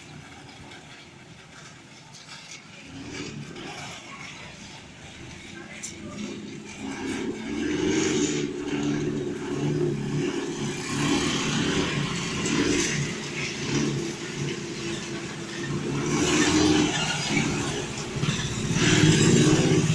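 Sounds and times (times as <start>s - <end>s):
vehicle engine revving: 2.7s - 19.9s.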